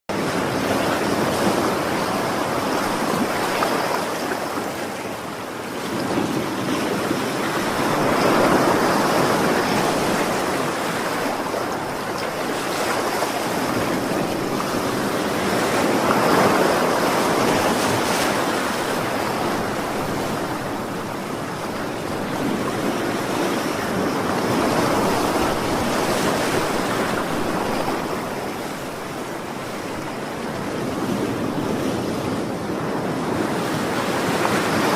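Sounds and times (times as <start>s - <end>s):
waves breaking on shore: 0.1s - 34.9s.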